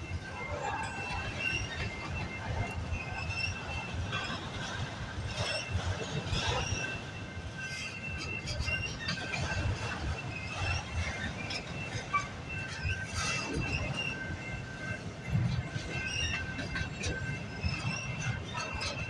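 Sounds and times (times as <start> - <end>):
high-pitched wheel squeal: 0.0 - 19.0
train wheels rumbling on rail: 0.0 - 19.0.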